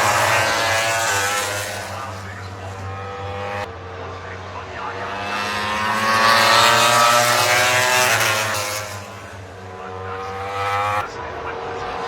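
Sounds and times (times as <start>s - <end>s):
another motorcycle approaching: 0.0s - 12.0s
racing motorcycle engine passing: 0.0s - 12.0s.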